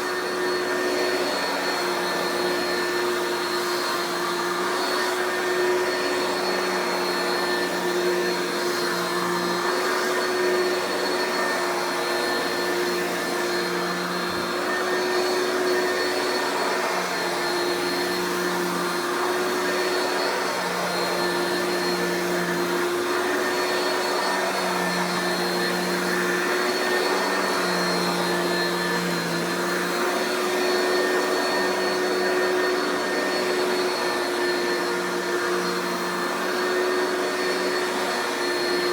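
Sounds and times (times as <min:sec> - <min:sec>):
upright vacuum running: 0:00.0 - 0:38.9.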